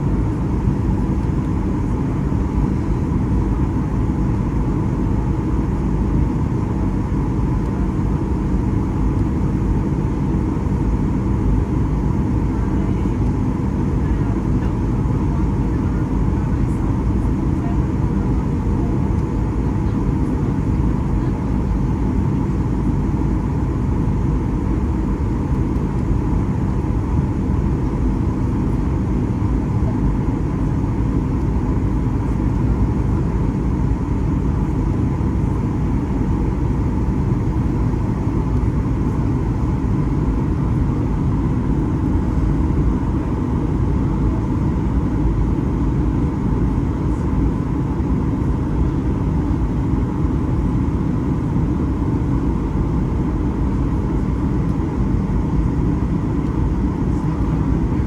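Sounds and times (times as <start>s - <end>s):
aircraft engine and airflow rumble: 0.0s - 58.0s
faint steady hum: 0.0s - 58.0s.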